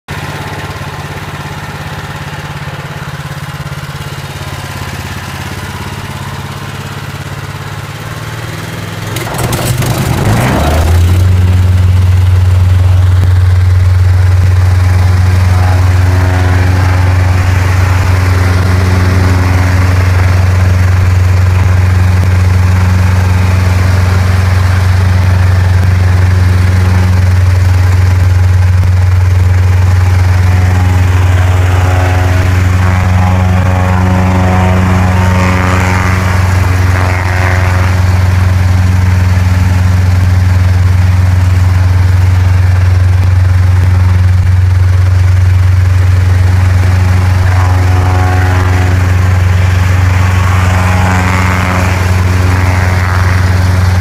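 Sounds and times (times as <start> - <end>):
plate compactor engine running: 0.1 - 54.0.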